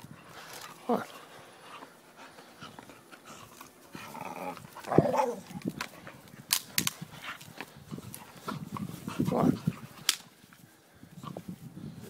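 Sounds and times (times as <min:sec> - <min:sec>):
dogs playing tug-of-war: 0:00.0 - 0:11.5.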